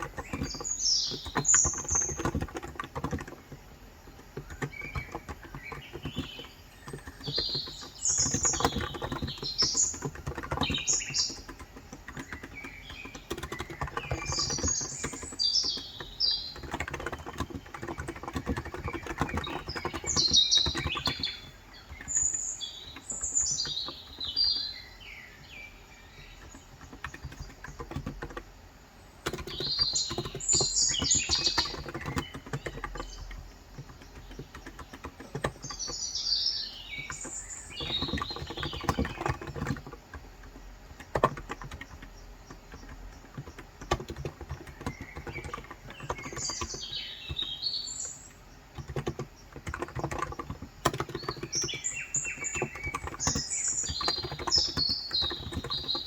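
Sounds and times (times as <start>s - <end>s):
keyboard typing clicks: 0.0s - 28.5s, 29.2s - 56.0s
birds chirping: 0.0s - 56.0s.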